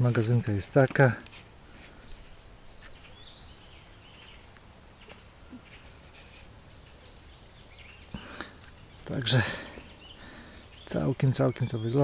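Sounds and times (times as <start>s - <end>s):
faint bird chirps: 1.9s - 12.0s.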